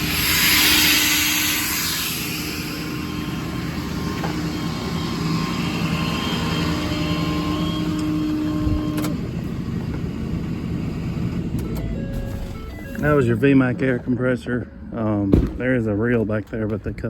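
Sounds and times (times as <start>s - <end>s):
air compressor humming: 0.0s - 14.1s
diesel truck engine running: 2.3s - 16.7s.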